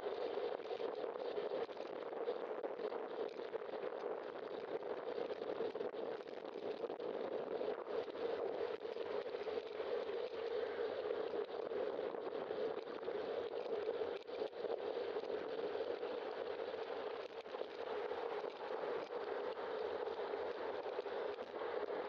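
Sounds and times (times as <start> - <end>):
wind and road noise: 2.2 - 22.0.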